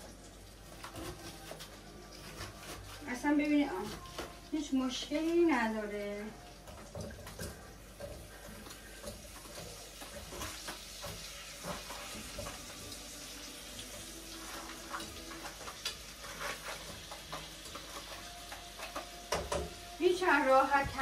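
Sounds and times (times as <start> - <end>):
meat and onions sizzling: 0.0 - 21.0.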